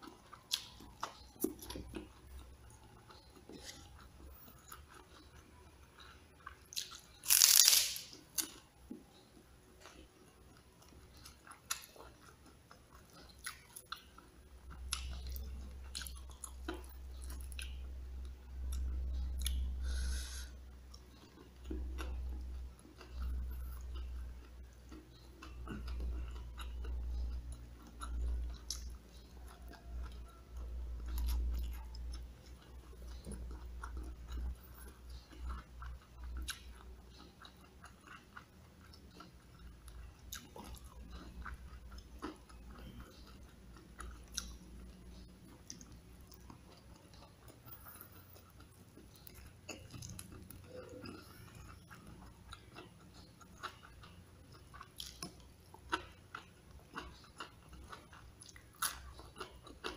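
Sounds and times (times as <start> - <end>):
close chewing with mouth smacks: 0.0 - 59.9.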